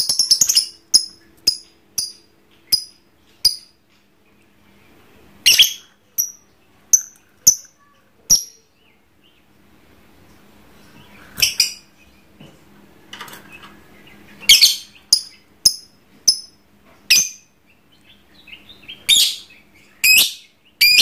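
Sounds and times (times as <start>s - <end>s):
lovebird chirping: 0.0s - 9.5s, 10.7s - 12.4s, 13.5s - 21.0s.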